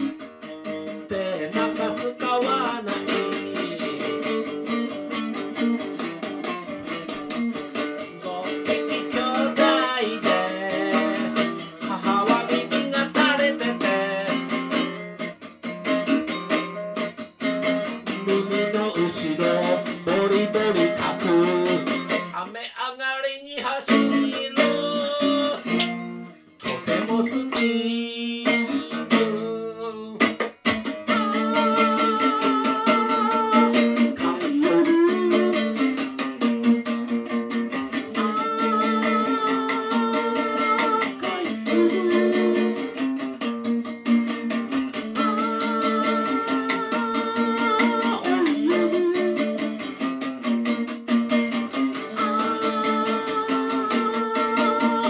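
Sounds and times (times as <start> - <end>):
man singing: 0.0 - 5.0, 7.7 - 15.3, 17.6 - 50.5, 51.5 - 55.0
electric guitar strumming: 0.0 - 55.0.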